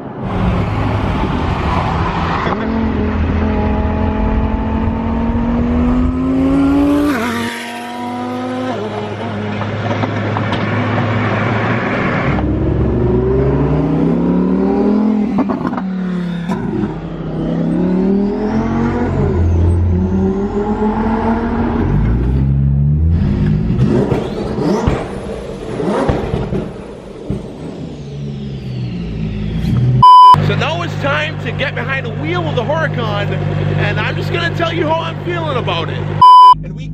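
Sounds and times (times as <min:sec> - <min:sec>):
car engine accelerating hard: 0:00.0 - 0:36.9.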